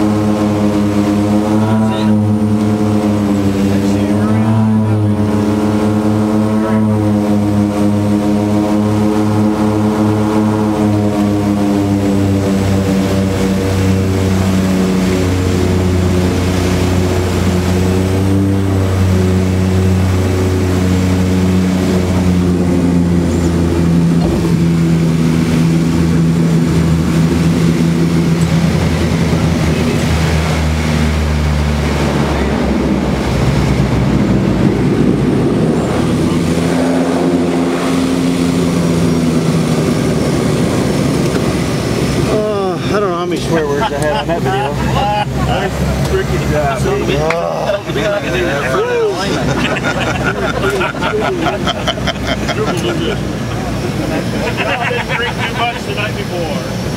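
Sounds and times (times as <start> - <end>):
turboprop engines droning: 0.0 - 56.9.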